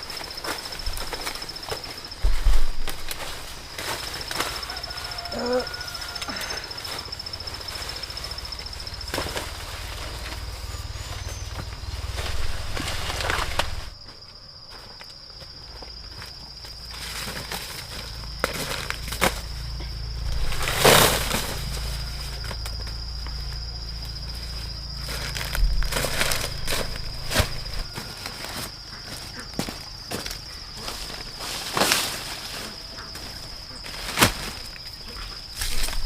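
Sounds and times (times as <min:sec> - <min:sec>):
crunching footsteps: 0:00.0 - 0:36.0
high insect drone: 0:00.0 - 0:36.0
rustling: 0:00.0 - 0:36.0.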